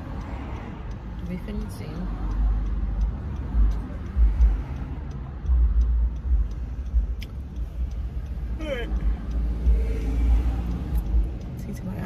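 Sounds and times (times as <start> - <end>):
faint ticks: 0.0 - 12.0.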